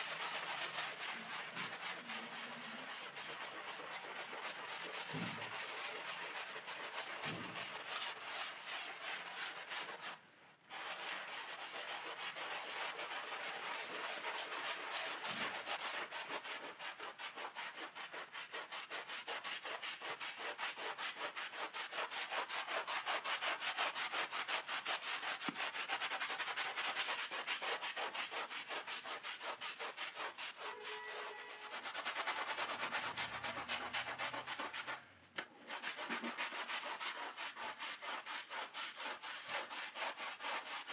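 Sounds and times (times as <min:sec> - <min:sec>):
brush scrubbing rug: 0:00.0 - 0:40.9.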